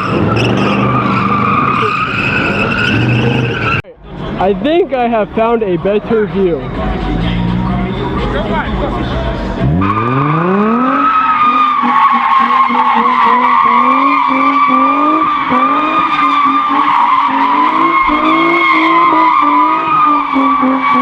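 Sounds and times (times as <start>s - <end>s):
car engine revving: 0.0s - 21.0s
tyres squealing: 0.0s - 21.0s.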